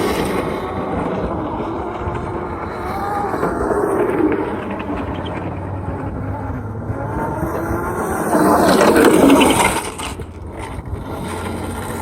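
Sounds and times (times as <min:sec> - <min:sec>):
wheel rumble: 0:00.0 - 0:12.0
wind on microphone: 0:00.0 - 0:12.0.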